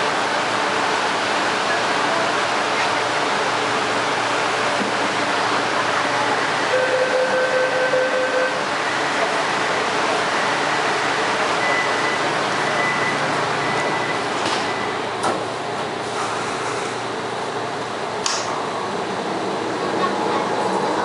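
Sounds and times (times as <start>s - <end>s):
metro train rushing noise: 0.0s - 21.0s.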